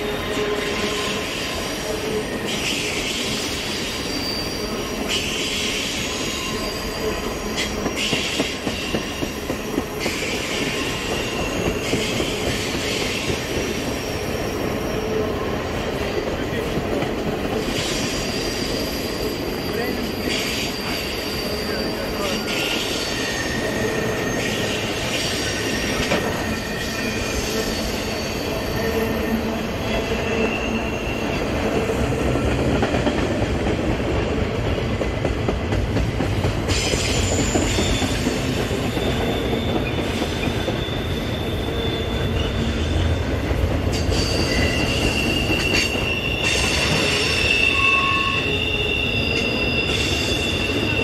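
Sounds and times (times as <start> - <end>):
high wheel squeals: 0.0 - 15.8, 17.6 - 31.6, 36.7 - 51.0
train wheels rumbling on rails: 0.0 - 51.0.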